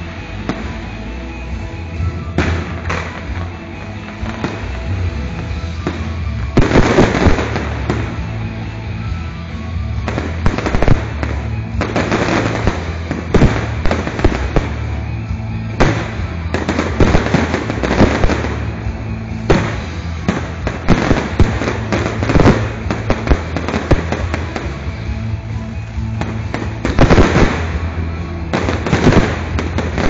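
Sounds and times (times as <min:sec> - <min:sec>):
fireworks bangs and crackling: 0:00.0 - 0:30.0
music with steady bass: 0:00.0 - 0:30.0.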